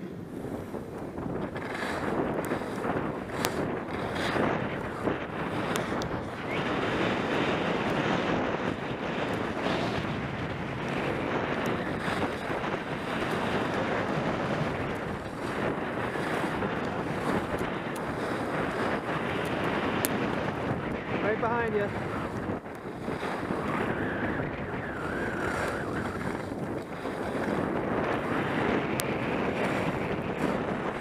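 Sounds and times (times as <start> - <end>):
skis scraping on packed snow: 0.0 - 31.0
wind buffeting microphone: 0.0 - 31.0.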